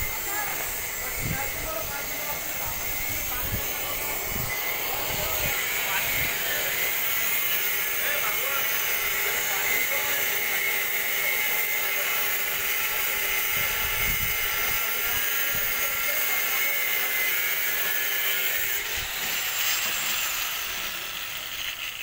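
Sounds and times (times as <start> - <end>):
angle grinder cutting steel: 0.0 - 22.0.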